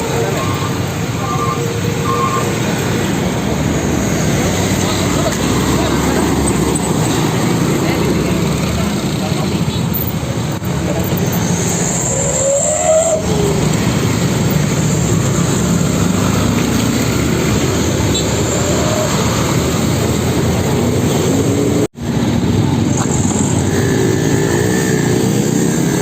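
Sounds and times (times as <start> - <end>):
road noise: 0.0 - 26.0
vehicle engines running: 0.0 - 26.0.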